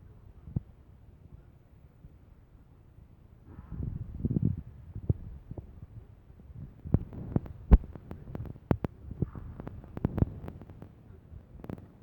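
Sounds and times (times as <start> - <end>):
faint rumble: 0.0 - 12.0.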